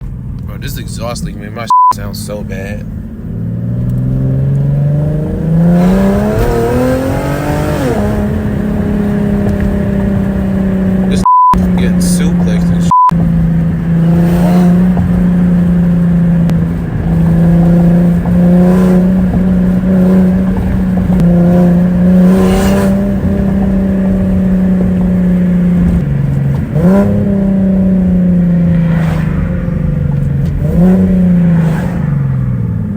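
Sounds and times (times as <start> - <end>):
car engine with exhaust leak: 0.0 - 32.9.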